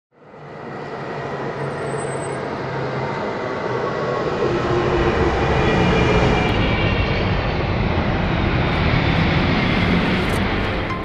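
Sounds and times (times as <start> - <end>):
electric train rumbling: 0.2 - 11.0.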